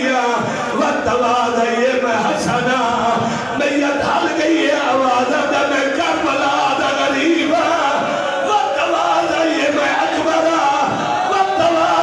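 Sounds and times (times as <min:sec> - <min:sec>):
man chanting into a microphone: 0:00.0 - 0:12.0.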